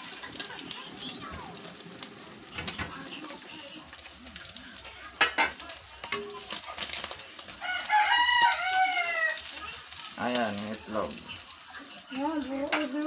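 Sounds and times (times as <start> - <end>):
egg sizzling in oil: 0.0 - 13.0.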